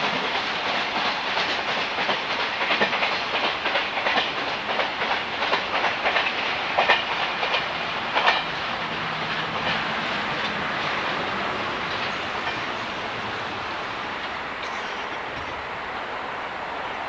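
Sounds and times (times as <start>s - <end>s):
train rolling rumble: 0.0s - 17.0s
train wheels clacking over rail joints: 0.0s - 17.0s.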